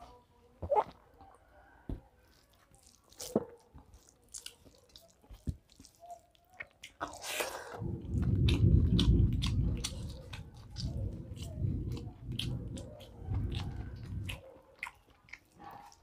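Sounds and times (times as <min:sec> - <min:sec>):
person chewing close to microphone: 0:02.2 - 0:16.0.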